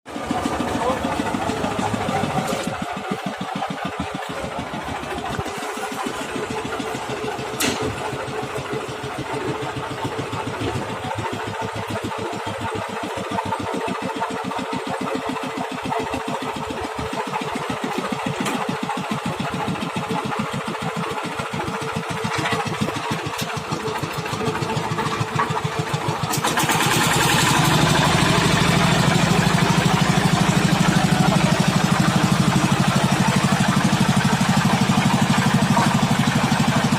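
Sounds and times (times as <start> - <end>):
road roller engine running: 0.1 - 36.9.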